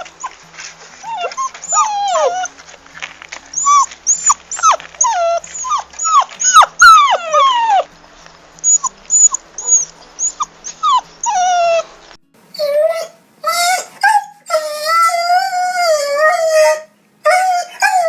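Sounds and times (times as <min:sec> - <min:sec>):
puppy whimpering: 0:00.0 - 0:07.9, 0:08.6 - 0:18.0
another dog crying: 0:01.0 - 0:02.6, 0:03.5 - 0:07.9, 0:08.6 - 0:11.9, 0:12.5 - 0:18.0.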